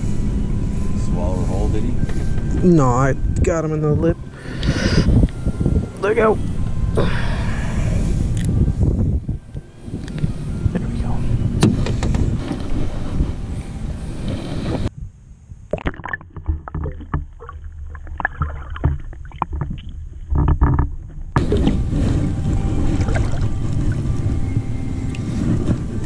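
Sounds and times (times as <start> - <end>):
water noise: 0.0 - 14.9, 15.7 - 26.0
wind: 0.0 - 26.0.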